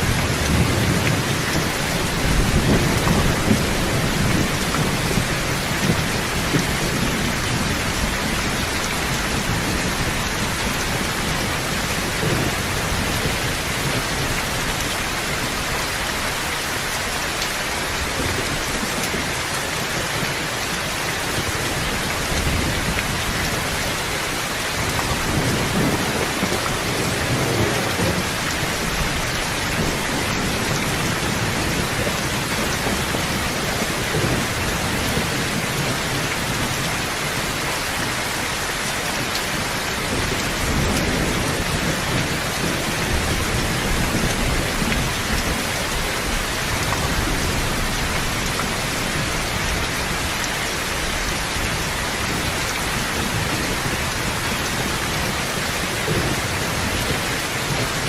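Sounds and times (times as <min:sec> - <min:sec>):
thunder rumbling: 0:00.0 - 0:16.4, 0:21.2 - 0:37.6, 0:39.1 - 0:58.0
heavy rain: 0:00.0 - 0:58.0.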